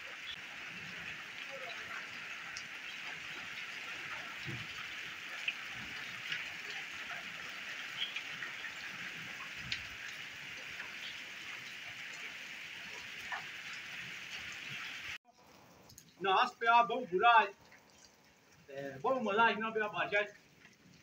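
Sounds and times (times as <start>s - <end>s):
heavy rain on tiles: 0.0s - 16.2s, 16.8s - 21.0s.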